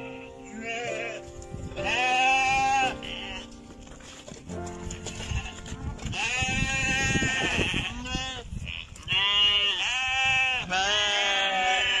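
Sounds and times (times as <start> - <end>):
goats bleating: 0.0 - 3.6, 5.1 - 12.0.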